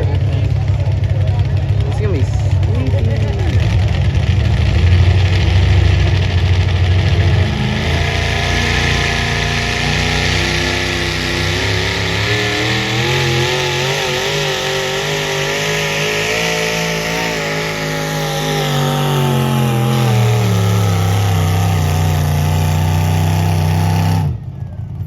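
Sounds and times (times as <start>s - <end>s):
engine running at high revs: 0.0s - 25.0s.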